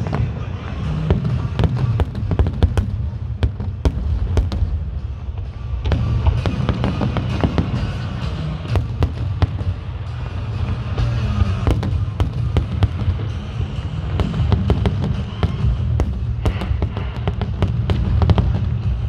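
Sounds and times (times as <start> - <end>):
fireworks bangs and crackles: 0.0 - 19.0
low rumble of bursts: 0.0 - 19.0
music playing: 0.0 - 19.0.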